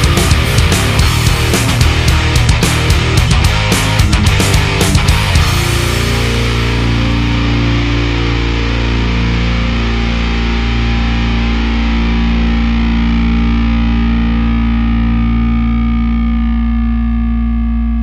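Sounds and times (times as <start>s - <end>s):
distorted electric guitar chord: 0.0s - 18.0s.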